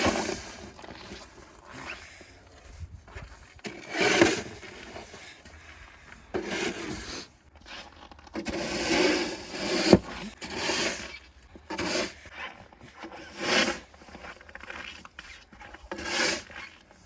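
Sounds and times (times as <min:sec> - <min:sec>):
shovel scraping snow: 0:00.0 - 0:17.0.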